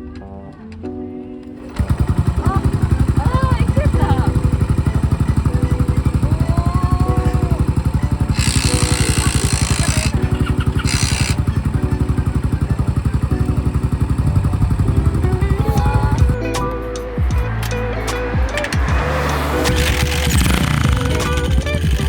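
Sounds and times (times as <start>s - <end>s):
motorcycle engine cruising: 1.6s - 22.0s.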